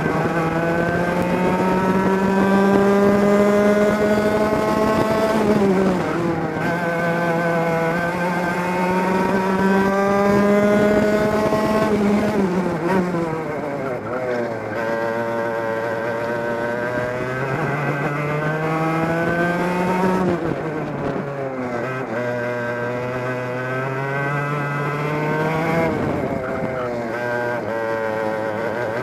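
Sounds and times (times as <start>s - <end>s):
kart engine at full throttle: 0.0s - 29.0s.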